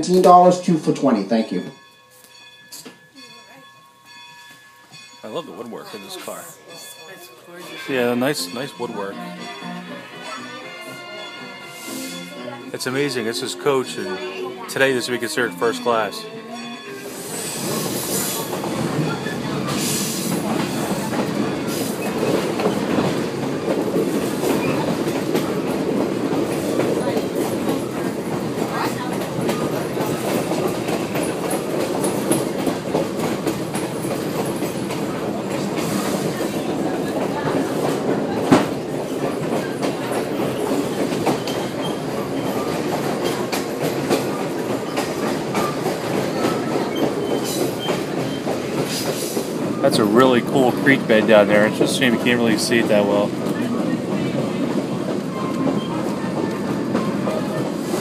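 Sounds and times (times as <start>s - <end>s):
train wheels rumbling on track: 1.6s - 58.0s.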